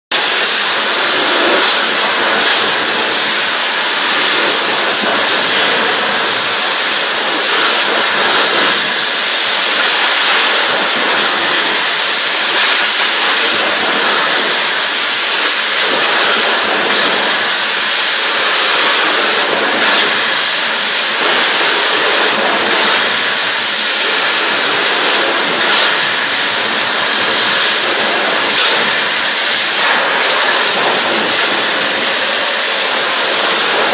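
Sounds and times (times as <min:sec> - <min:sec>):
high-pressure water jet hissing: 0:00.1 - 0:33.9.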